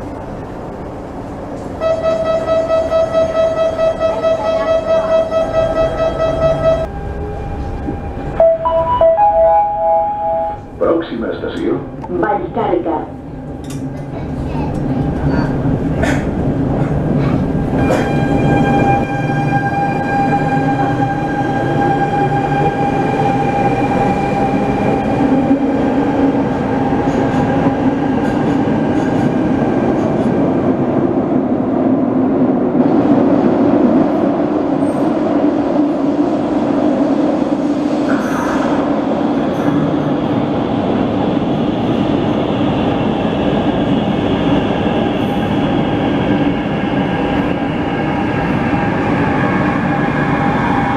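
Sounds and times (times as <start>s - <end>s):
metro train moving through station: 0.0s - 50.9s
train car rumbling: 0.0s - 50.9s.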